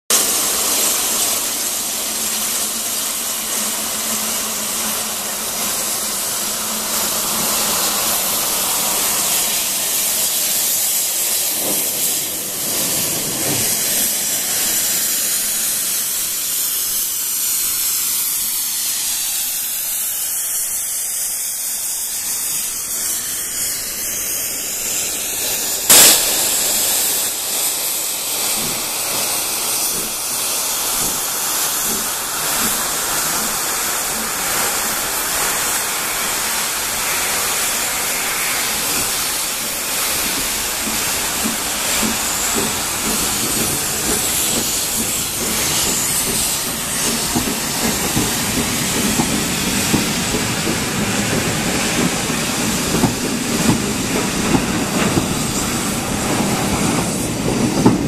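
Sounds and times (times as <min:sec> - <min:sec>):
loud burst of steam: 0:00.1 - 0:58.0
steam hissing: 0:00.1 - 0:58.0.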